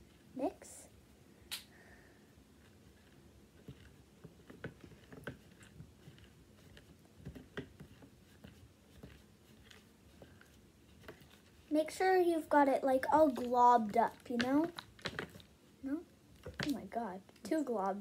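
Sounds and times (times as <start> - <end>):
plastic spoon stirring slime in bowl: 2.4 - 18.0.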